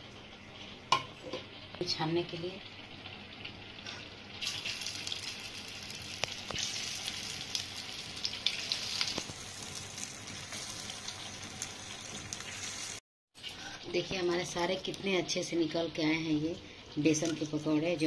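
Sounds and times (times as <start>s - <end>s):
batter sizzling in hot oil: 0.0s - 18.0s.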